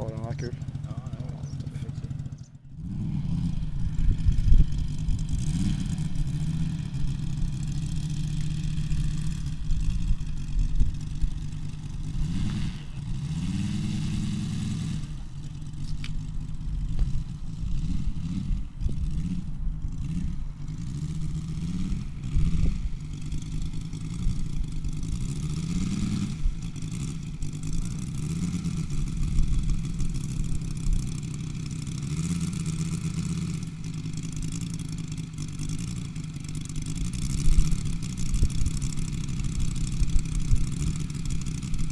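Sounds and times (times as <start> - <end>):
model plane engine revving: 0.0 - 41.9.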